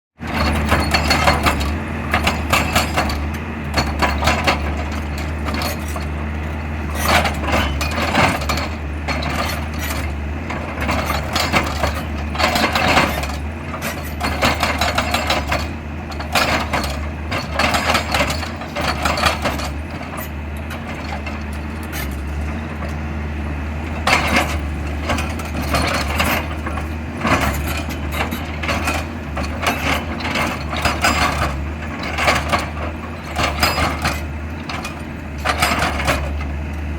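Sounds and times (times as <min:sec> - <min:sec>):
excavator diesel engine droning: 0:00.2 - 0:36.9.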